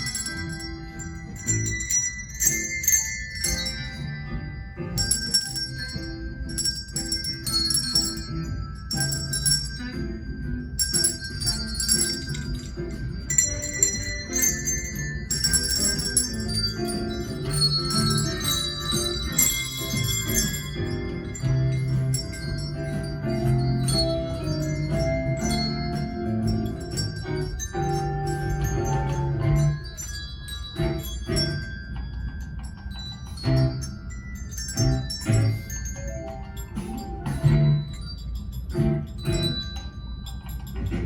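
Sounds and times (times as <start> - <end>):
handbells playing a melody: 0.0 - 41.0.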